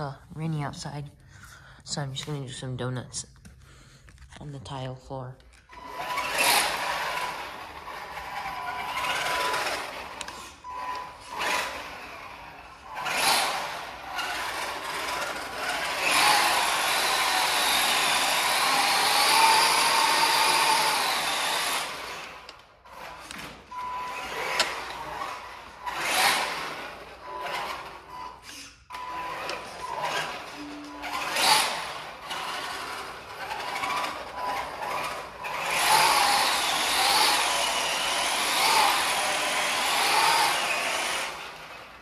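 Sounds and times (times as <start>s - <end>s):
electric motor whining: 5.8s - 42.0s.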